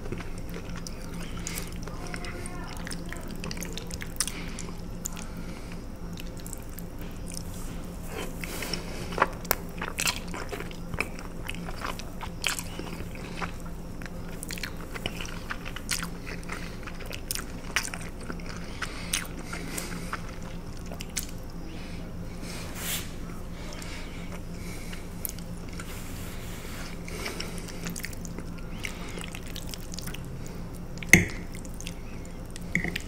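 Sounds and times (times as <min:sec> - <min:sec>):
open-mouth chewing with lip smacks: 0:00.0 - 0:01.9, 0:02.8 - 0:07.5, 0:08.2 - 0:21.7, 0:23.7 - 0:25.9, 0:26.9 - 0:33.0.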